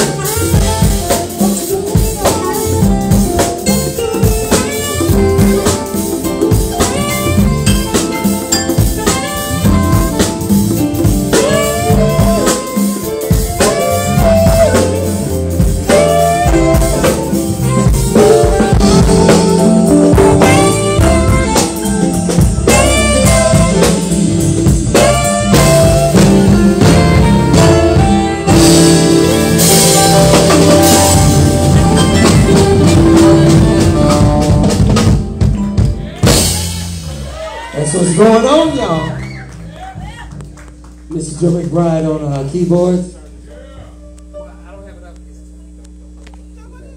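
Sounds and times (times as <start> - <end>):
congas and drum kit beat: 0.0 - 44.8
live jazz band playing: 0.0 - 46.9.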